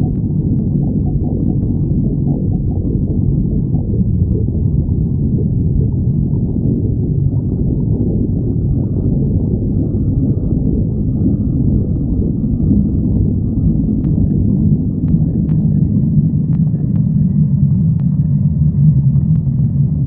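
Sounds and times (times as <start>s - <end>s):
stomach growling: 0.0s - 20.0s.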